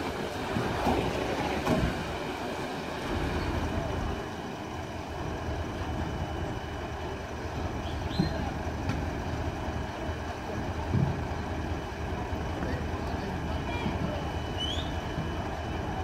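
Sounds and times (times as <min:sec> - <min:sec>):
large vehicle engine idling: 0:00.0 - 0:16.0.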